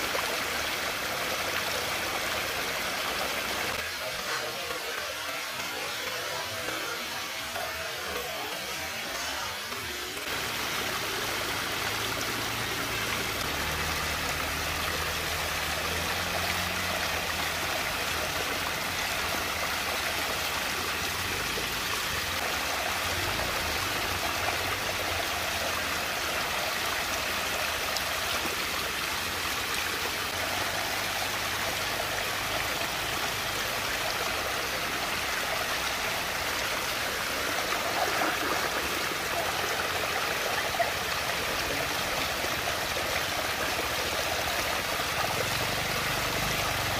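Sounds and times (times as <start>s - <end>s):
water rushing into whirlpool: 0.0s - 46.9s.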